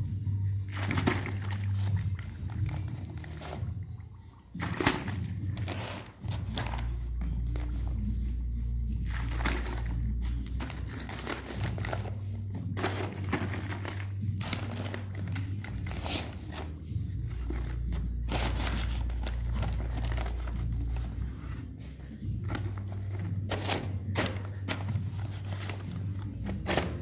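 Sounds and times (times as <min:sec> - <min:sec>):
powder scraping: 0:00.0 - 0:27.0
steady low hum: 0:00.0 - 0:27.0
sack crinkling and rustling: 0:00.4 - 0:27.0.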